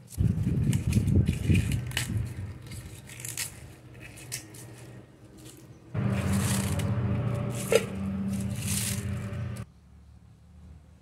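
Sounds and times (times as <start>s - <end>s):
cabbage leaves tearing: 0.0s - 9.6s
leaves rustling: 0.0s - 9.7s
steady low hum: 0.2s - 9.7s.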